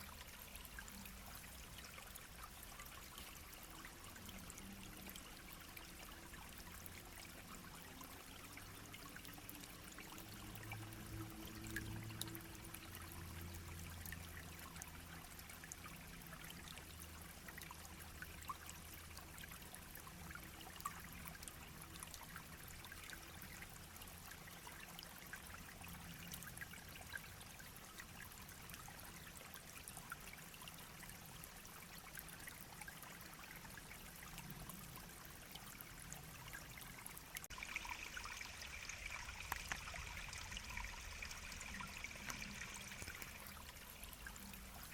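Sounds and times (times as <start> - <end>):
brook babbling over stones: 0.0 - 44.9.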